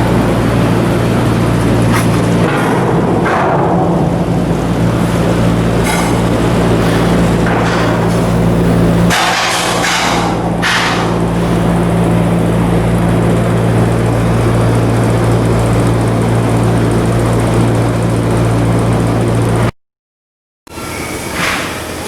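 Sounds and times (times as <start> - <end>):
machine humming: 0.0 - 19.7.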